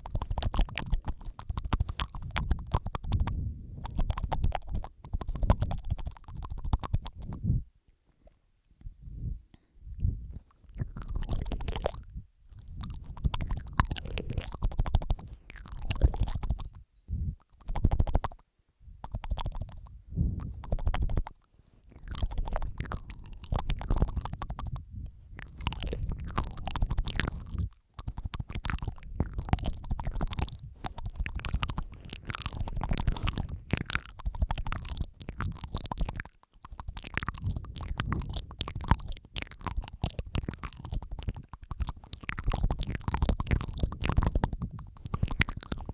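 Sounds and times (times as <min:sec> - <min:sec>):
wet mouth clicks and smacks: 0:00.0 - 0:07.5, 0:08.2 - 0:45.9.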